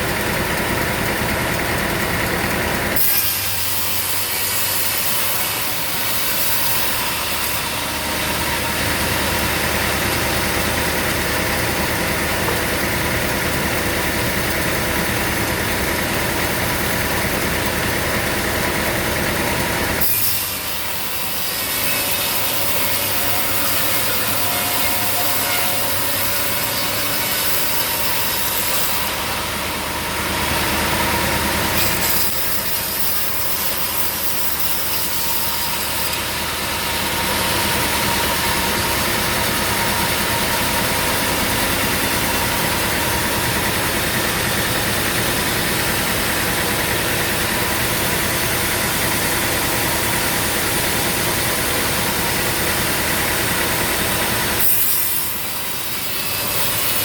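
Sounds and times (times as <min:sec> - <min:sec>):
saw cutting through wood: 0:00.0 - 0:57.0.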